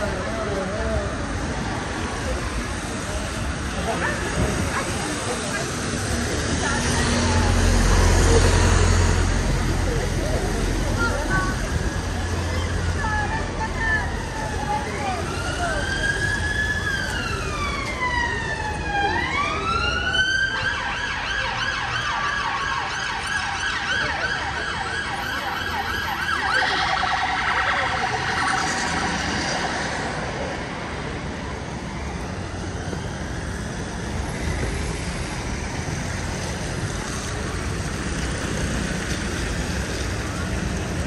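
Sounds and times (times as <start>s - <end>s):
emergency vehicle siren: 0.0s - 41.0s
street traffic on wet road: 0.0s - 41.0s.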